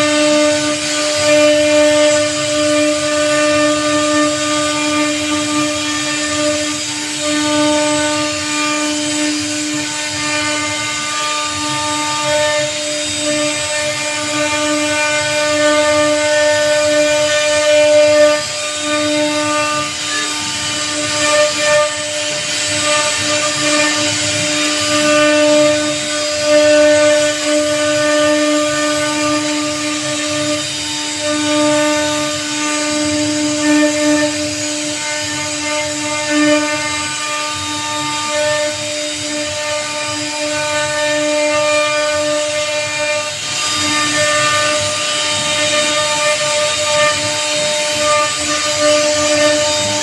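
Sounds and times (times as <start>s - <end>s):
router bit cutting wood: 0.0s - 50.0s
router spindle whine: 0.0s - 50.0s.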